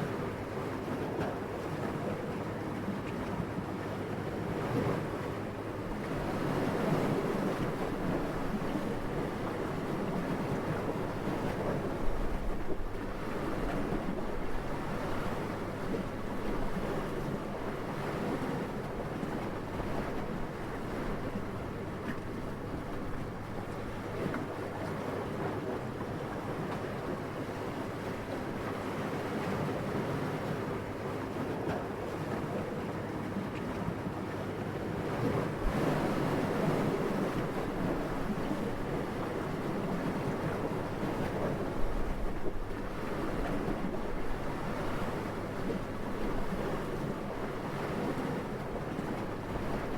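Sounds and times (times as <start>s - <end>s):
wind: 0.0s - 49.9s.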